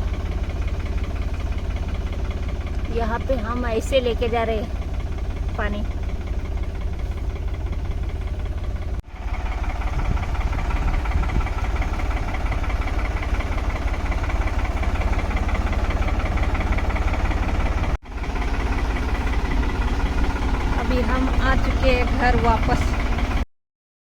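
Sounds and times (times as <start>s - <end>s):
tractor engine running: 0.0s - 23.5s.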